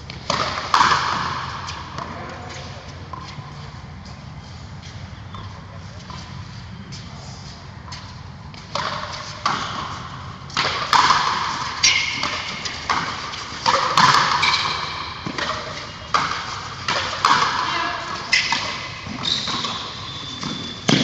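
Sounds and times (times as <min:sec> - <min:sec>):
ball hitting racquet and wall: 0:00.0 - 0:04.2, 0:07.8 - 0:21.0.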